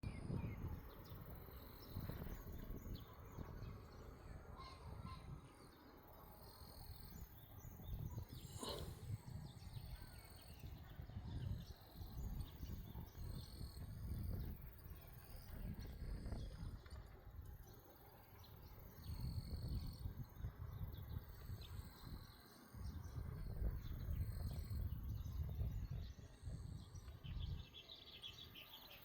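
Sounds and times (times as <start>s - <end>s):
wind gusting on microphone: 0.0s - 6.2s, 6.8s - 17.7s, 18.4s - 28.1s
birds chirping: 0.1s - 29.0s.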